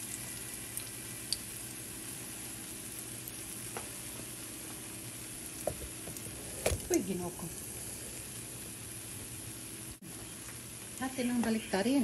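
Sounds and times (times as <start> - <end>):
plantain frying in oil: 0.0 - 12.0.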